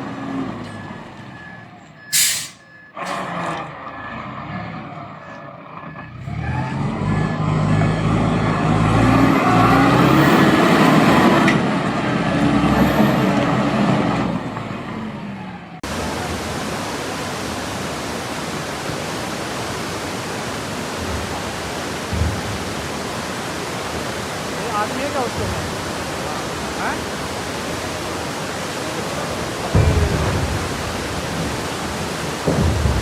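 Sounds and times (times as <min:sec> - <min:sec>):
truck engine labouring: 0:00.0 - 0:33.0.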